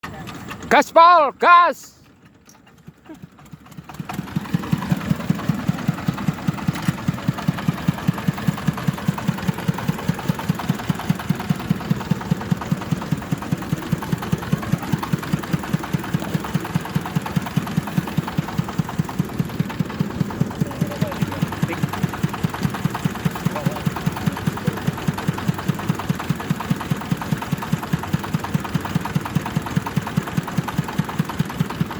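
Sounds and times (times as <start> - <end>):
diesel engine thudding: 2.2 - 31.9.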